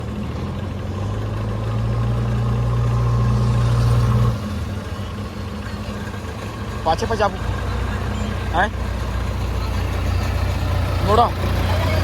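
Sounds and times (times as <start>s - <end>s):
heavy machinery diesel engine: 0.0s - 12.0s.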